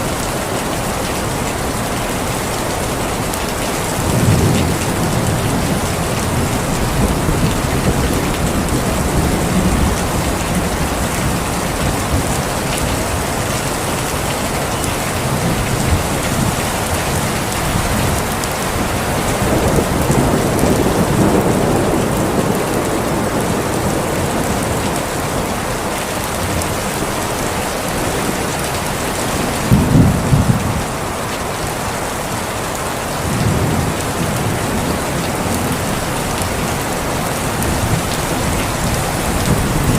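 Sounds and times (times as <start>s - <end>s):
heavy rain: 0.0s - 39.9s
rolling thunder: 3.8s - 13.2s, 14.6s - 31.0s, 33.2s - 39.9s.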